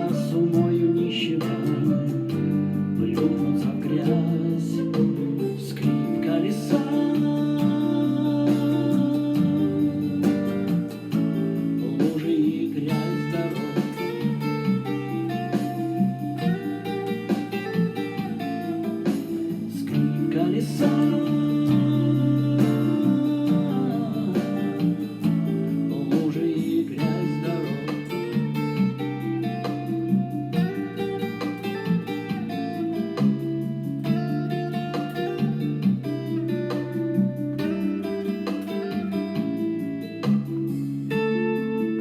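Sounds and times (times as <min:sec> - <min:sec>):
guitar plucked and strummed: 0:00.0 - 0:42.0.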